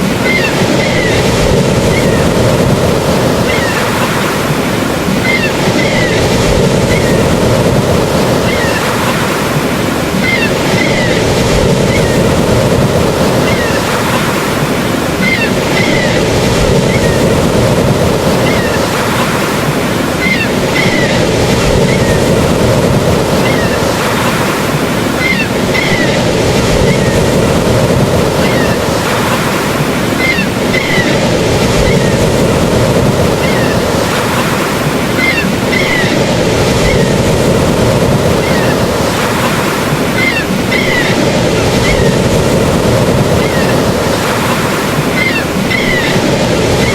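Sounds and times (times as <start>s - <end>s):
ocean waves washing onto shore: 0.0s - 46.9s.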